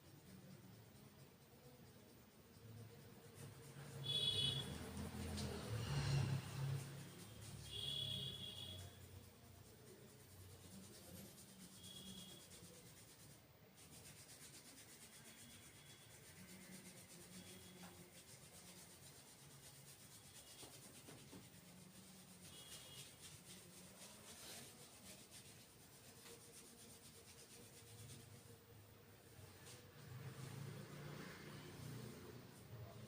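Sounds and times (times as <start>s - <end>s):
hands rubbing hair and scalp: 0.0s - 33.0s.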